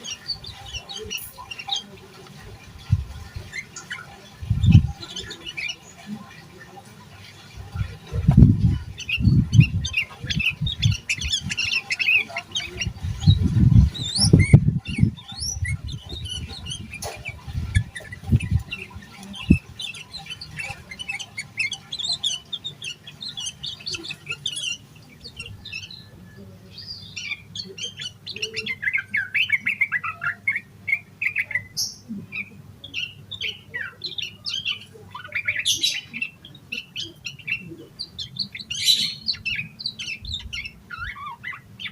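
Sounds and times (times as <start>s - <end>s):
bird chirping and calling: 0.0s - 41.9s.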